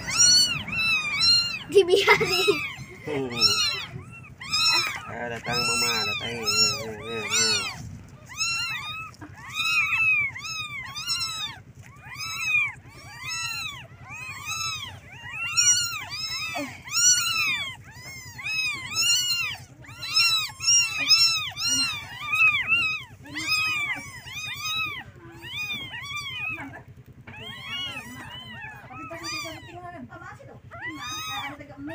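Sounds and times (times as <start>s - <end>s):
kittens mewing: 0.0s - 31.9s
low steady hum: 0.0s - 31.9s.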